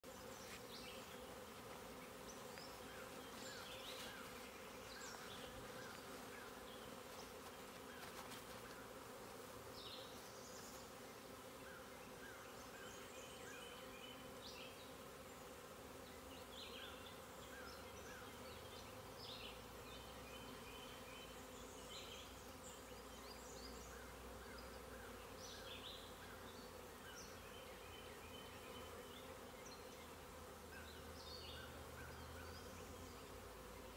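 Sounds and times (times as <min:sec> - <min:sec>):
faint buzzing of bees: 0:00.0 - 0:33.9.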